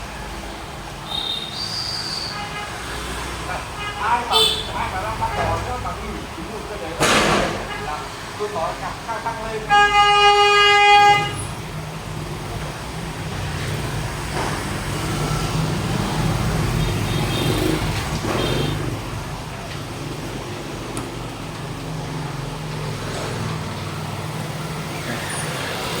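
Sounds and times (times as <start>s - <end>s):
vehicle engines running: 3.0s - 9.7s, 10.5s - 26.0s.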